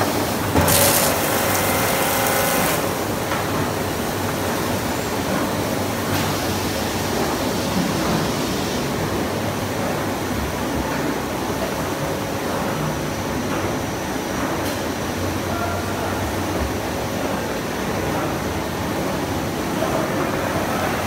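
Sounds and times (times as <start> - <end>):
food processing line din: 0.0 - 21.0.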